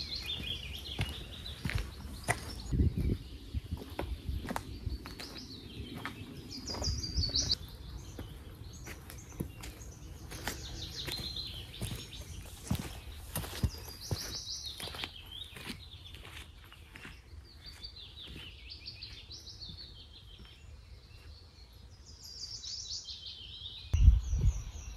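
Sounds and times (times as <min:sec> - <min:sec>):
footsteps on dirt path: 0:00.0 - 0:21.6
songbird singing: 0:00.0 - 0:24.9.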